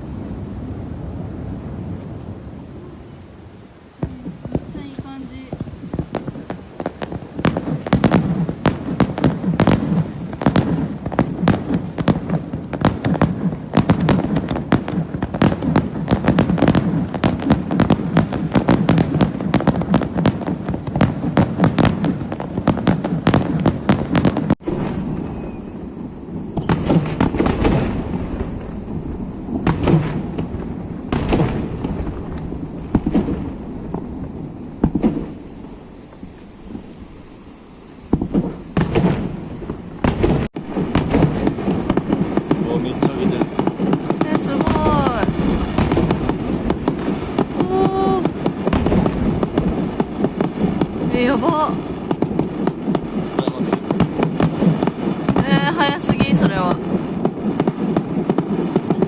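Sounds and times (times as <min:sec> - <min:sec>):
fireworks booms: 0:00.0 - 0:59.0
fireworks crackling bangs: 0:00.0 - 0:59.0.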